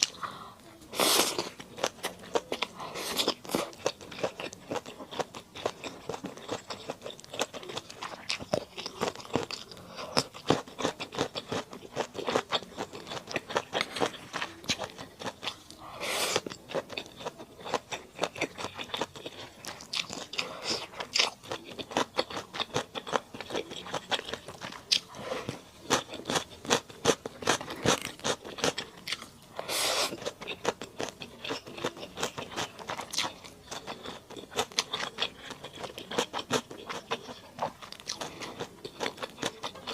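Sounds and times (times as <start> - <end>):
chewing with crisp crunches: 0.0 - 39.9.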